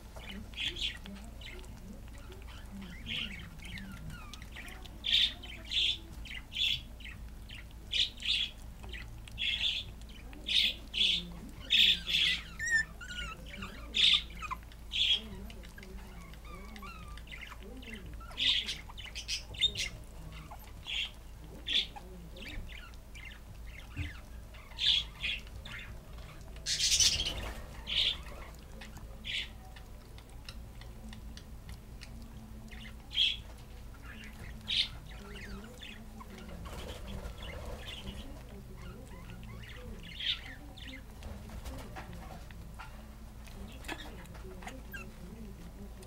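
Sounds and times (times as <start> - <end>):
budgerigars chirping: 0.2 - 29.9, 32.7 - 41.1.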